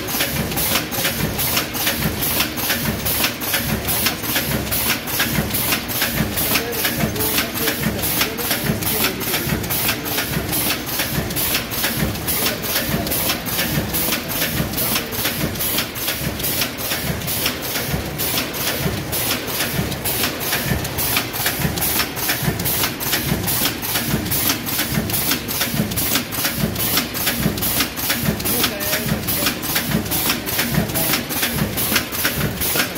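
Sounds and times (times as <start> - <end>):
fast even machine clicking: 0.0 - 32.9
machine mechanical hum: 0.0 - 32.9.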